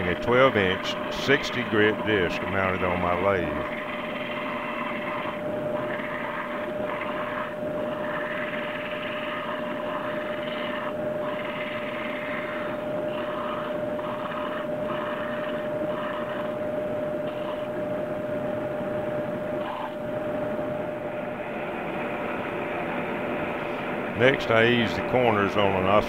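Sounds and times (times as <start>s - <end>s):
sanding disc humming: 0.0s - 26.0s.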